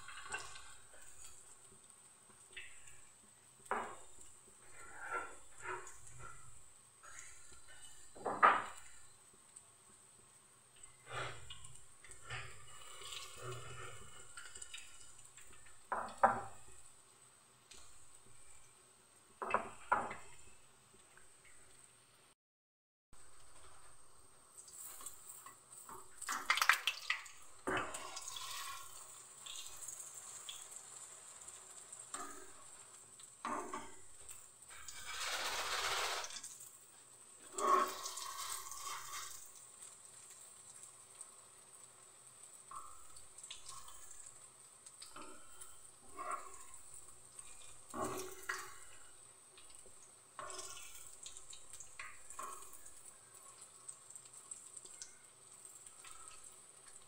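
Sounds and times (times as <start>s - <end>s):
deep-frying bubbling sizzle: 0.0s - 22.4s, 23.2s - 57.0s.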